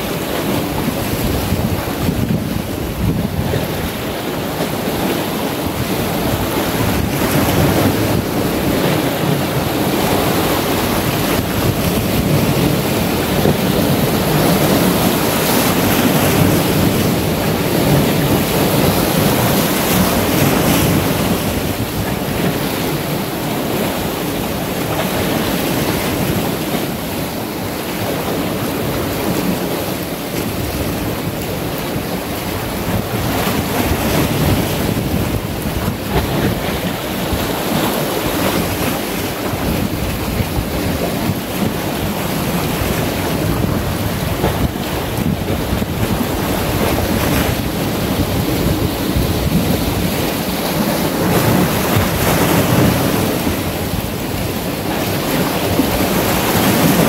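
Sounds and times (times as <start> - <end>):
waves breaking on boulders: 0.0 - 57.0
wind buffeting microphone: 0.0 - 57.0.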